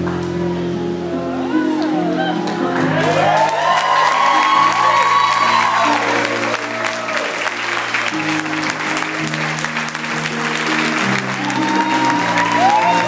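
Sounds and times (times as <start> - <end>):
congregation applauding: 0.0 - 0.4, 1.6 - 13.0.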